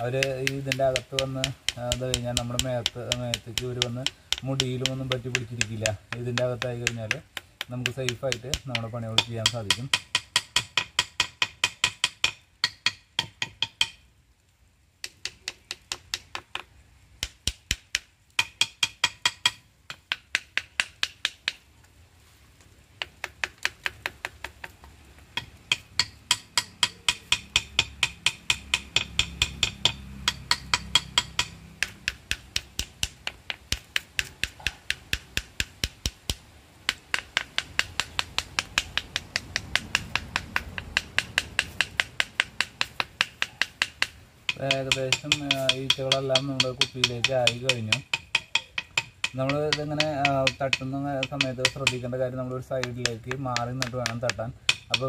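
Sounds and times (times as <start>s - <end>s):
knife tapping on wooden hive box: 0.2s - 14.0s, 23.0s - 52.1s, 52.7s - 55.0s.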